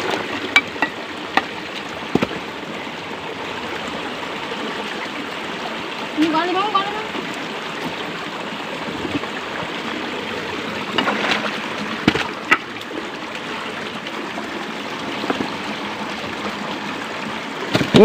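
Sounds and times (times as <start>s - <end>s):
stream trickling over rocks: 0.0s - 18.0s.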